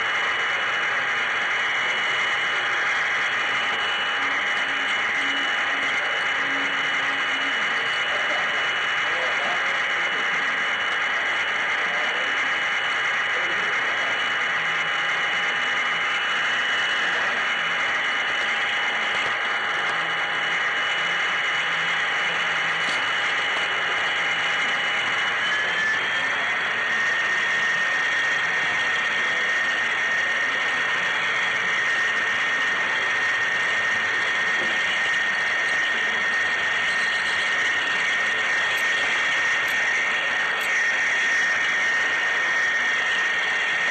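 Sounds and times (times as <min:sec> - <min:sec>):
thin motor whine: 0:00.0 - 0:43.9.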